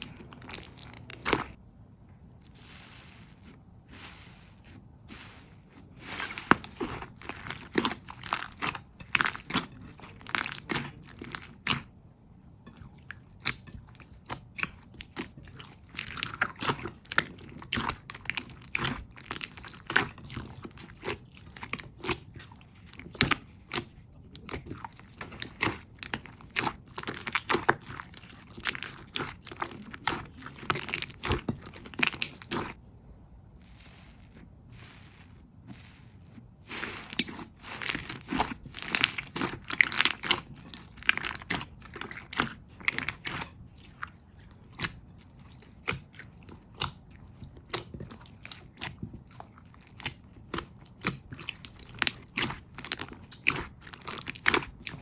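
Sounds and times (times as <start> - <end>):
slime squeezed popping and crackling: 0.0 - 1.6, 6.2 - 11.9, 13.1 - 32.8, 36.7 - 55.0.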